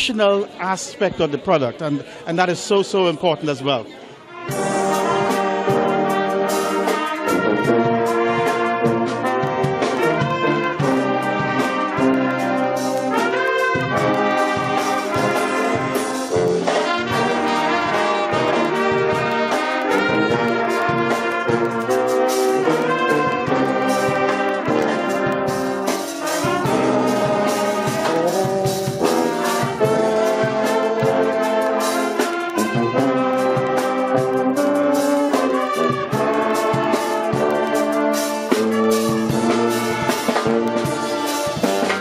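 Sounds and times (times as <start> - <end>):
school band playing: 0.0 - 42.0
trumpets and trombones: 2.4 - 42.0.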